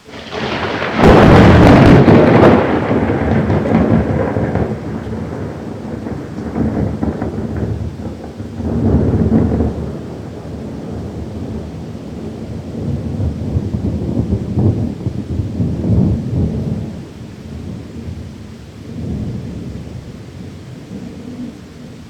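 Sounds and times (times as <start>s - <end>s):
rolling thunder: 0.0s - 22.0s
steady rain: 0.0s - 22.0s.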